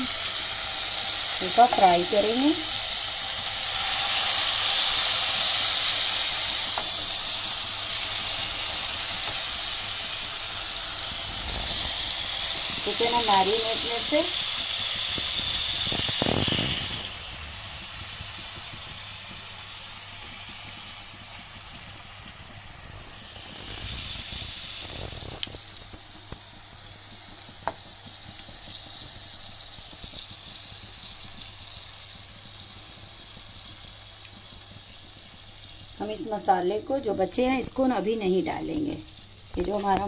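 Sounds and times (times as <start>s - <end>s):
chicken sizzling in a frying pan: 0.0s - 40.0s.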